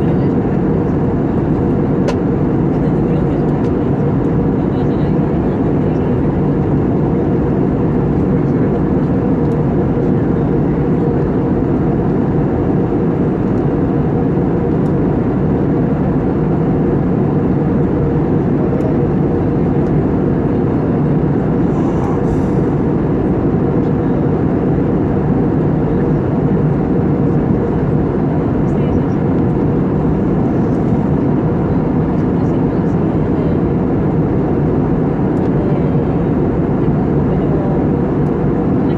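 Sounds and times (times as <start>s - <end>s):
jet cabin engine roar: 0.0s - 38.9s.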